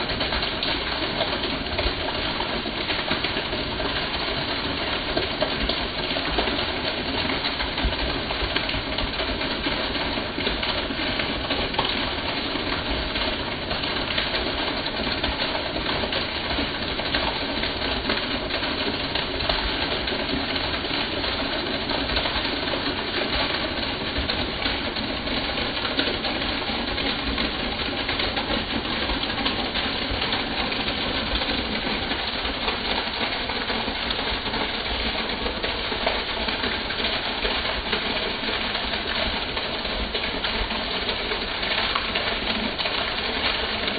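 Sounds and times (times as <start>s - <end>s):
heavy rain: 0.0s - 43.9s
rainwater pouring off roof: 0.0s - 43.9s.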